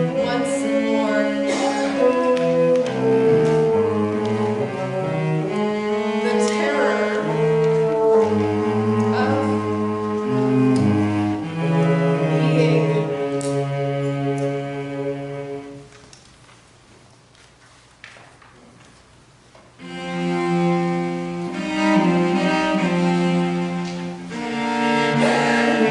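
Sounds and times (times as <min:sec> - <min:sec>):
bassoon: 0:00.0 - 0:15.9, 0:19.8 - 0:25.9
cello: 0:00.0 - 0:16.1, 0:19.6 - 0:25.9.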